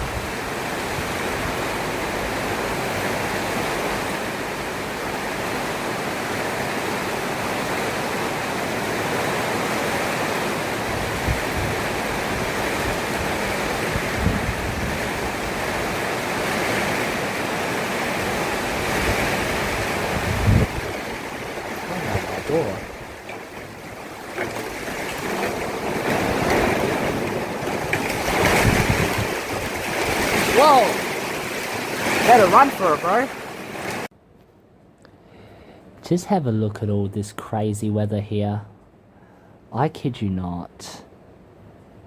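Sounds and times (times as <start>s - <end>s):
heavy rain pouring: 0.0s - 34.1s.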